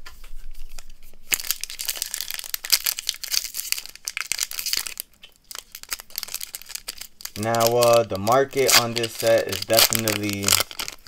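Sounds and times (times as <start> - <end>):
foil wrapper crinkling: 1.2 - 11.0.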